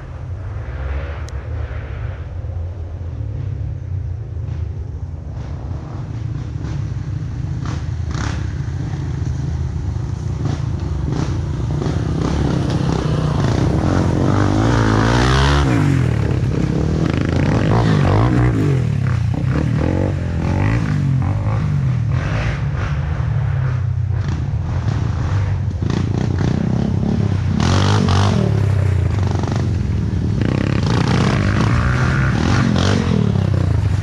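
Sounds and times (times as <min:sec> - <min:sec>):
dirt bike engines revving: 0:03.0 - 0:34.0.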